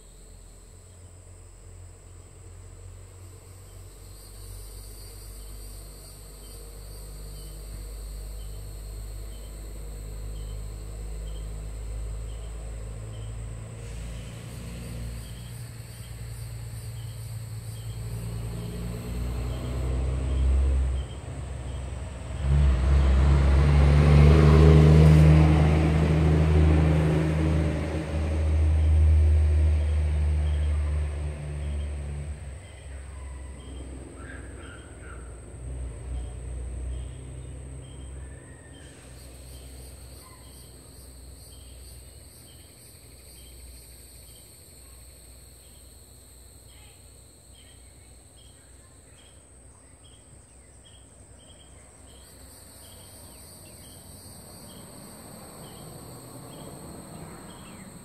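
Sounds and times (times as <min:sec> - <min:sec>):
engine rumble: 0:00.0 - 0:58.0.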